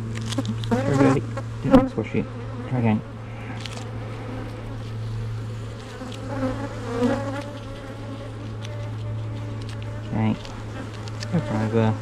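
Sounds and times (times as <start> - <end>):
bees buzzing: 0.0 - 12.0
bees flying close by: 0.0 - 12.0.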